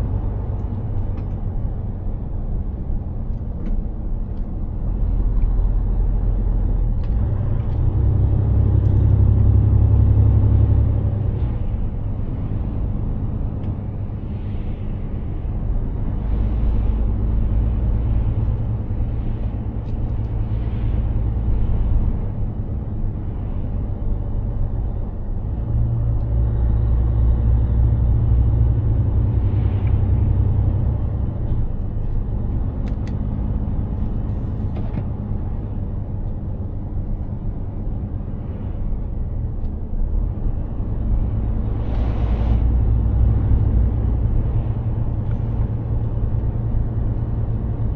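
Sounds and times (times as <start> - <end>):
truck diesel engine rumble: 0.0 - 47.9.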